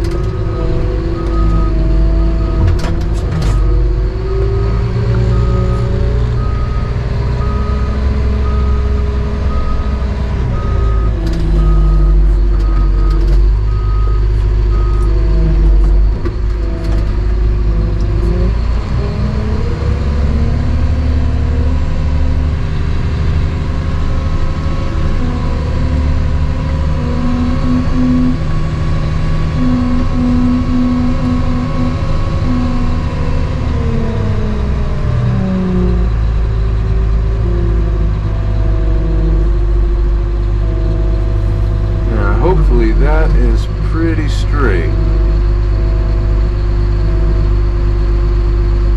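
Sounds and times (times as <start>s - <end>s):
dump truck diesel engine: 0.0s - 48.9s.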